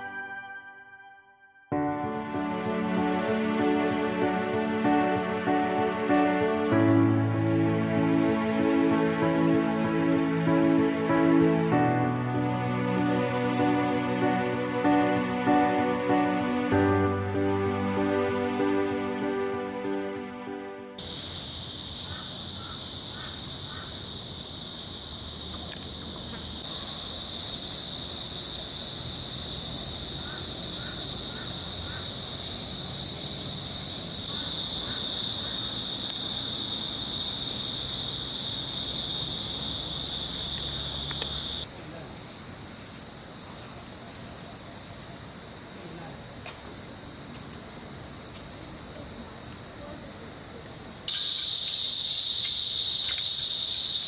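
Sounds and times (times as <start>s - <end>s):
crickets chirping chorus: 2.1s - 19.2s, 21.0s - 54.0s.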